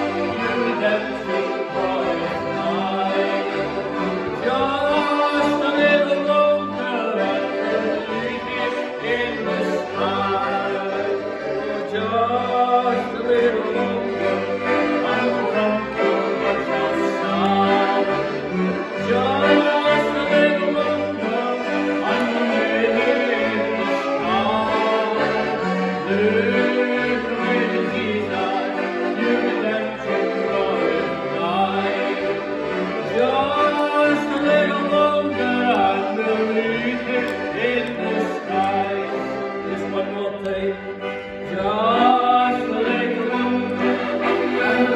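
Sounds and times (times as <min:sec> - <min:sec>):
piano accordions playing: 0:00.0 - 0:44.9.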